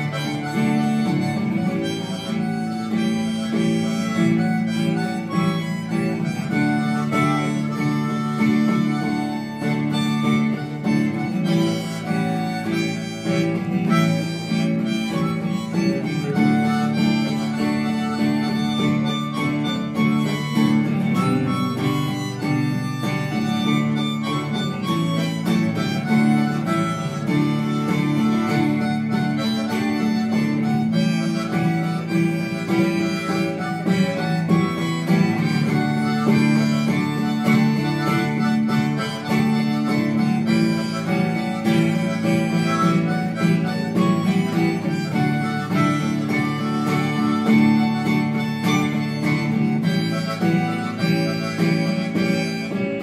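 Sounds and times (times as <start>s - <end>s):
acoustic guitar: 0.0s - 53.0s
harmonica melody: 0.0s - 53.0s.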